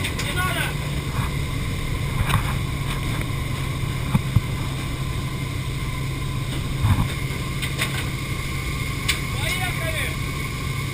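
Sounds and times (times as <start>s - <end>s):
aircraft engine drone: 0.0s - 10.9s
rushing wind: 0.0s - 10.9s.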